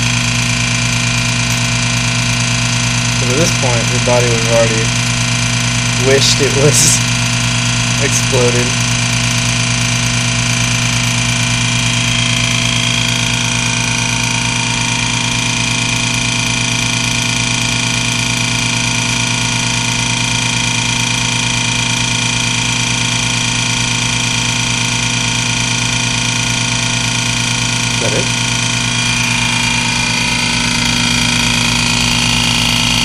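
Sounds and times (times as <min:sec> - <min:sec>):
vacuum pump droning: 0:00.0 - 0:33.0.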